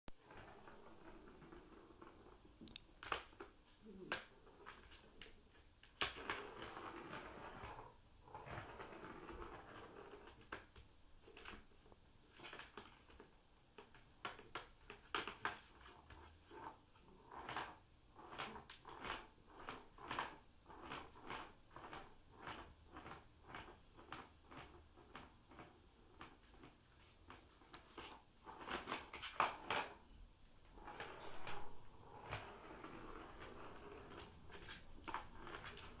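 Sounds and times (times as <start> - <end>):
plastic ball rolling in tubes: 0.1 - 36.0.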